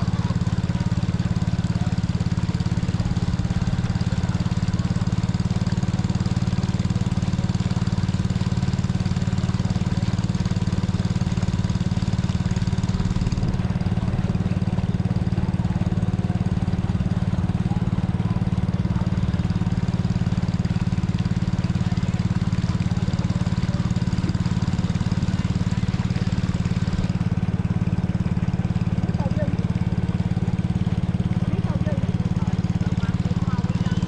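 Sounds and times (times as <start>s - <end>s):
boat motor chugging: 0.0s - 34.0s.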